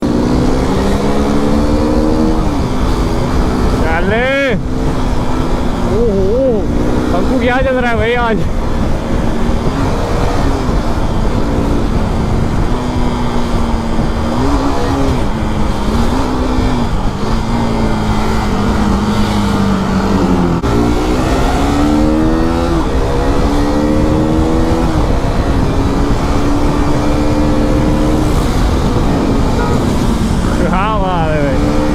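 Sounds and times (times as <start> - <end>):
motorcycle engine revving: 0.0 - 31.9
steady rushing noise: 0.0 - 31.9.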